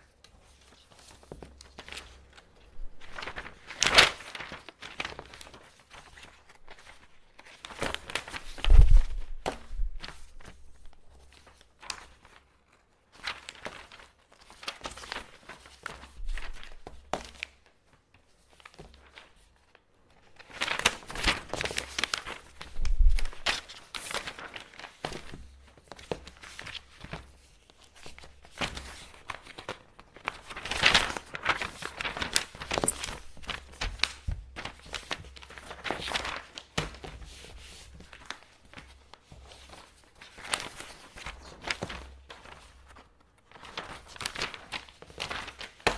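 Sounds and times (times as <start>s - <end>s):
paper rustling and crinkling: 0.0s - 45.9s.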